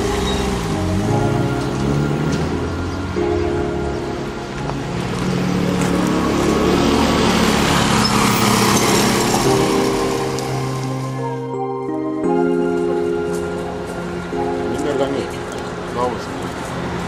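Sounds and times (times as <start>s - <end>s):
synth chords music: 0.0s - 17.0s.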